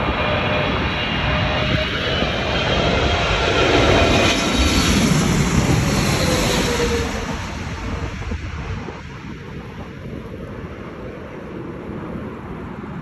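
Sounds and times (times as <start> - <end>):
jet engines rushing and whining: 0.0 - 13.0
wind buffeting microphone: 0.0 - 13.0.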